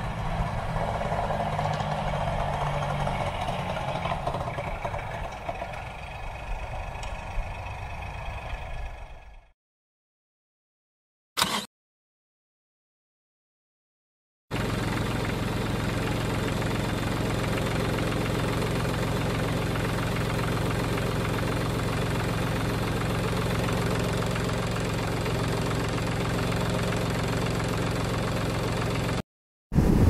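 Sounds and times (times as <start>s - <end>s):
tractor engine idling: 0.0s - 9.5s, 14.5s - 29.2s.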